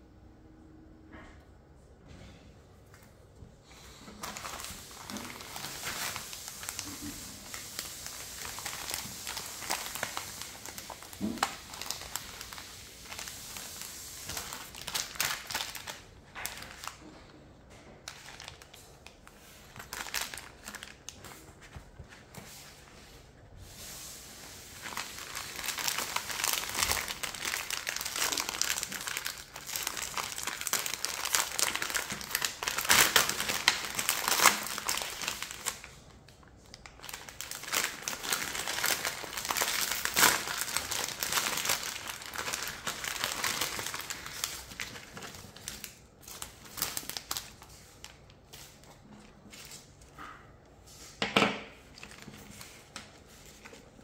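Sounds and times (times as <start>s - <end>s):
packaging crinkling and rustling: 3.7s - 50.3s, 51.7s - 54.0s.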